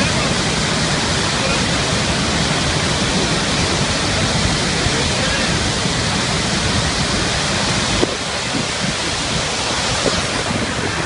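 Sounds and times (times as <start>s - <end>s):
water rushing torrent: 0.0s - 11.0s.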